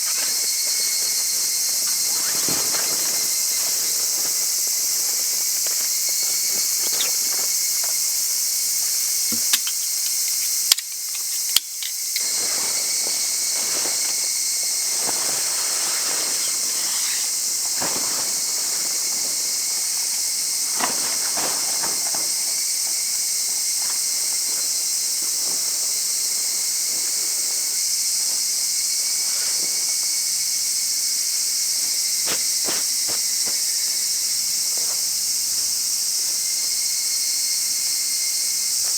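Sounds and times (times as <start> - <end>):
insects chorus: 0.0 - 38.9.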